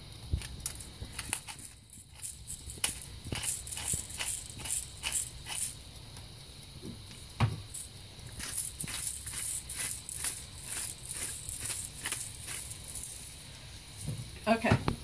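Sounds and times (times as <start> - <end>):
dry crackling ticks of grinding: 0.0 - 14.7.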